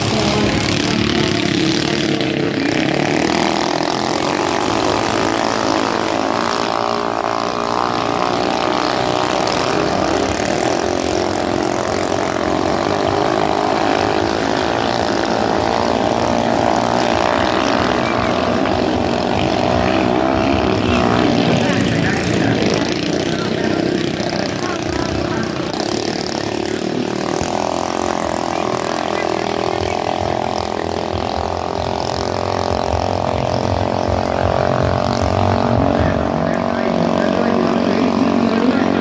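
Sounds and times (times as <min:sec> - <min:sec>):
racing boat engine high revs: 0:00.0 - 0:39.0.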